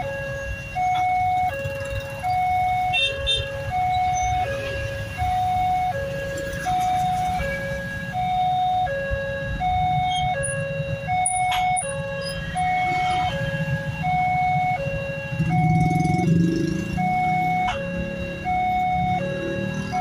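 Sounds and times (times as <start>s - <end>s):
idling engines rumbling: 0.0s - 20.0s
level crossing two-tone alarm: 0.0s - 20.0s.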